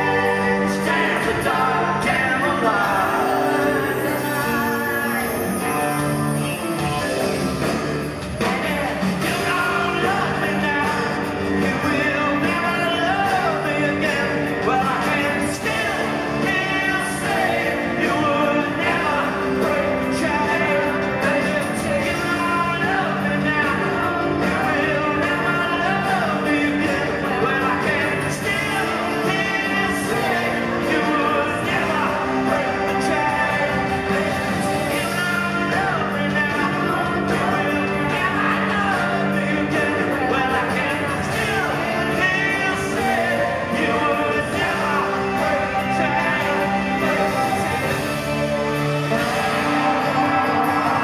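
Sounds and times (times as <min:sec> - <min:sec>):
bass: 0:00.0 - 0:51.0
drums: 0:00.0 - 0:51.0
electric guitars: 0:00.0 - 0:51.0
group singing: 0:00.0 - 0:51.0.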